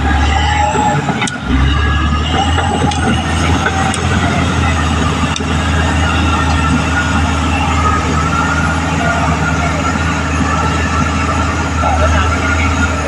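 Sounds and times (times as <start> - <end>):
bulldozer diesel drone: 0.0 - 13.0
wavering whine: 0.0 - 13.0.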